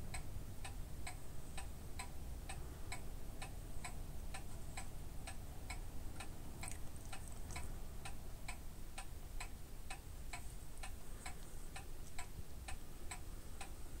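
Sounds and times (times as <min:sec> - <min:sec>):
clock ticking: 0:00.0 - 0:14.0
faint low hum: 0:00.0 - 0:14.0.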